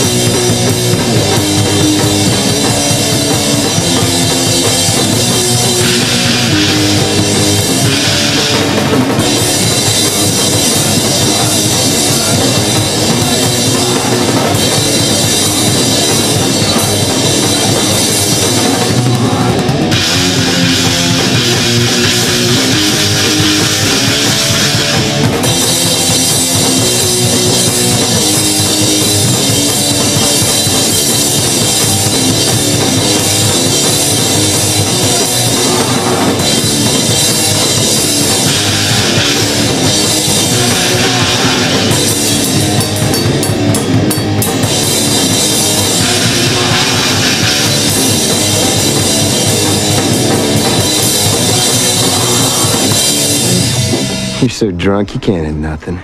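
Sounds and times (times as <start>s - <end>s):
drum kit: 0.0s - 56.0s
punk band playing: 0.0s - 56.0s.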